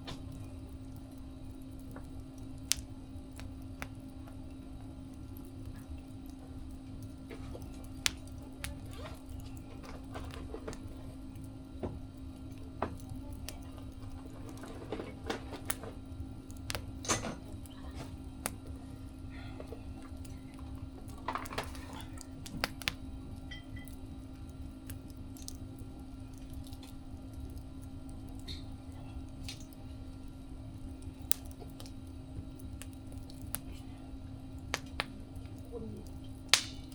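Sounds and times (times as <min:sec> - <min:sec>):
steady low hum: 0:00.0 - 0:36.9
wood fire crackling and popping: 0:00.0 - 0:36.9.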